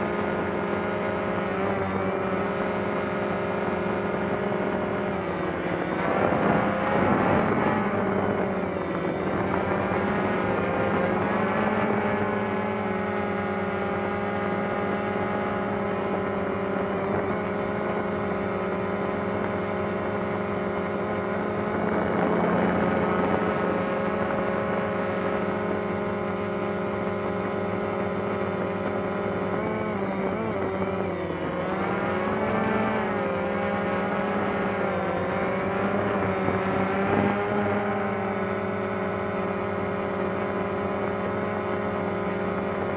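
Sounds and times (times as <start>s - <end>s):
drone propellers whirring: 0.0s - 42.9s.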